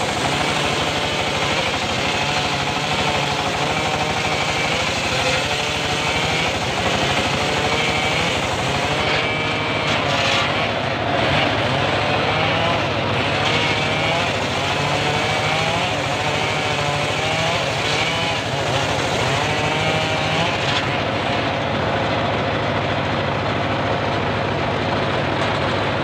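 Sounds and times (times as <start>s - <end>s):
wavering saw whine: 0.0s - 25.5s
circular saw engine drone: 0.0s - 26.0s.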